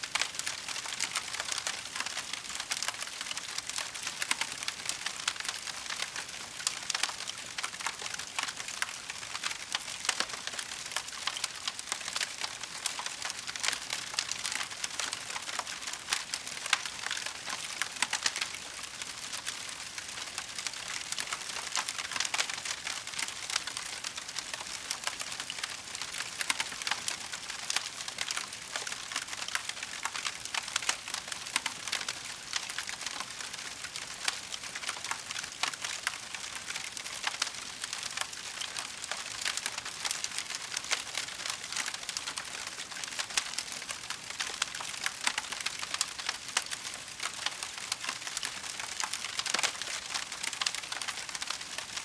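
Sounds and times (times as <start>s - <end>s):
wood fire crackling: 0.1s - 52.0s.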